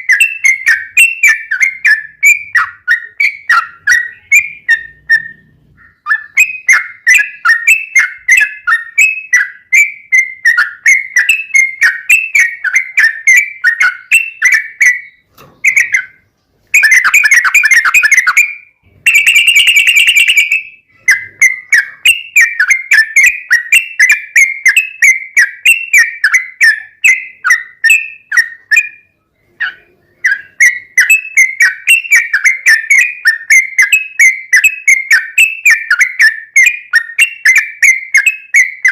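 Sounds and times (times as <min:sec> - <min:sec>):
bulbul singing whistled notes: 0:00.0 - 0:38.9.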